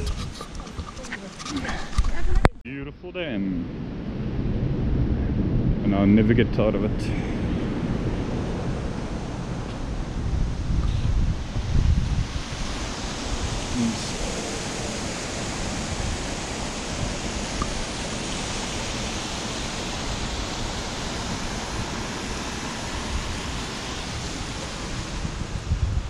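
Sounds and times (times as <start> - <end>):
low buffeting: 0.0 - 26.0
steady rushing noise: 0.0 - 26.0.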